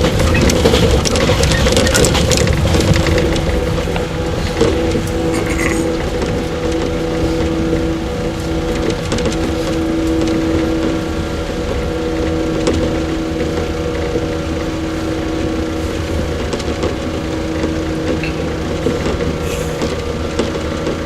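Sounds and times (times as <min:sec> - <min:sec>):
rail clicks: 0:00.0 - 0:21.0
traction motor hum: 0:00.0 - 0:21.0
train wheel rumble: 0:00.0 - 0:21.0.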